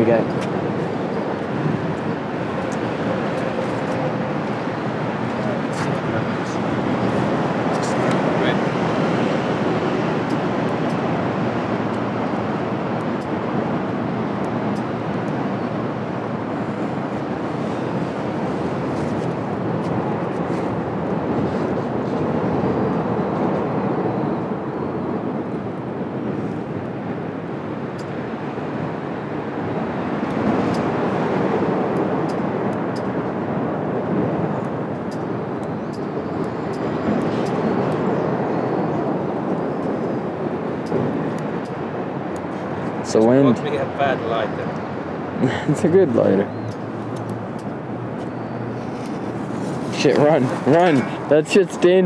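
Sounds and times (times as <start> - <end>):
wind blowing across microphone: 0.0 - 52.0.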